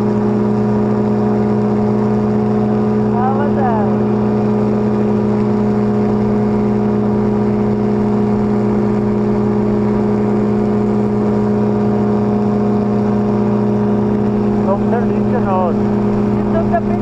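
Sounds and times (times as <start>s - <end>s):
engine and propeller droning: 0.0s - 17.0s.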